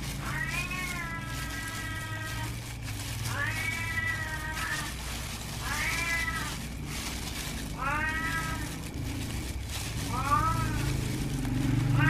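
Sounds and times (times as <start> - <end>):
cat meowing: 0.1 - 8.8, 10.0 - 11.1.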